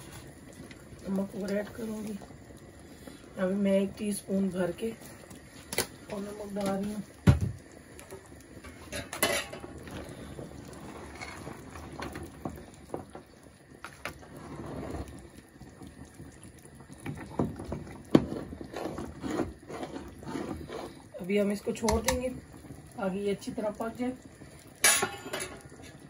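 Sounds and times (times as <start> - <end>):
curry bubbling in a pot: 0.0 - 26.0.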